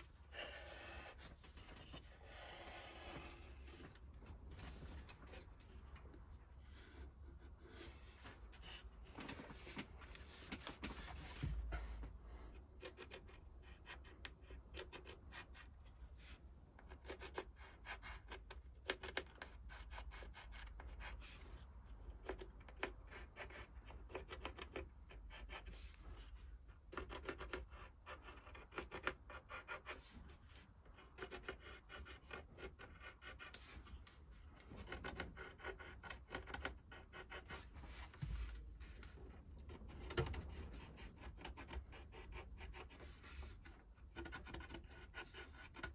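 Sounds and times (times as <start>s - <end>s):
pencil scratching on wood: 0.0s - 5.8s, 6.5s - 45.9s.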